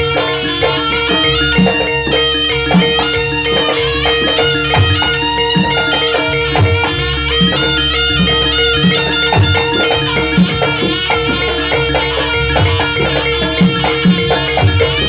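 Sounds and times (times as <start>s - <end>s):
held drone: 0.0s - 15.0s
reedy wind instrument melody: 0.0s - 15.0s.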